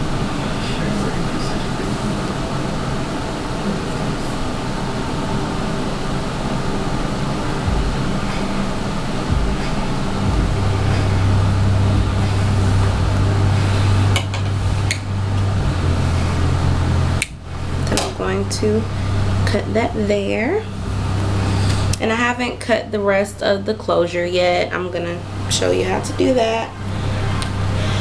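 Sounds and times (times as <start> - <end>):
deep drone: 0.0 - 28.0
mechanical hum: 0.0 - 28.0.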